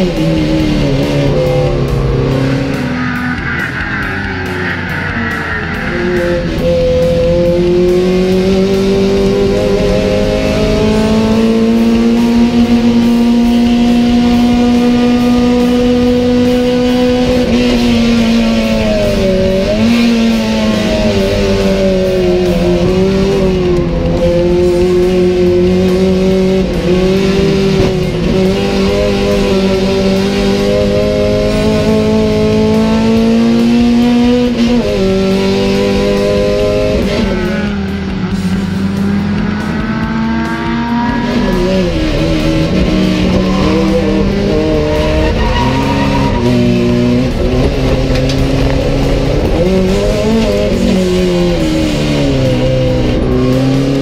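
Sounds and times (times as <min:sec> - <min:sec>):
guitar music: 0:00.0 - 0:54.0
race car engine at high revs: 0:00.0 - 0:54.0.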